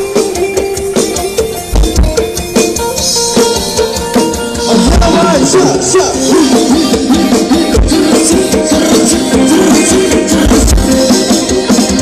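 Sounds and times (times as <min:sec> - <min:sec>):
loud pop music with heavy bass: 0:00.0 - 0:12.0.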